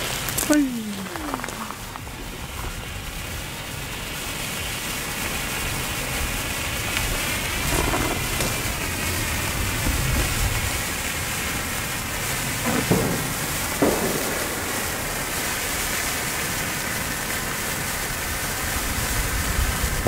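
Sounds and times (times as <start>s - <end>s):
flare hissing: 0.0s - 20.0s.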